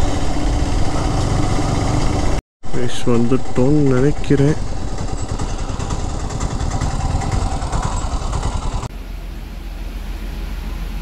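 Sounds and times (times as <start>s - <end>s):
motorcycle engine running: 0.0s - 8.9s
boat engine droning: 0.0s - 11.0s.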